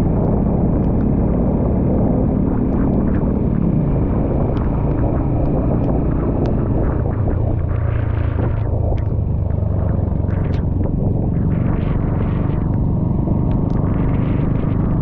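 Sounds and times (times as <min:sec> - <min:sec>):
motorbike engine rumble: 0:00.0 - 0:15.0
wind on microphone: 0:00.0 - 0:15.0.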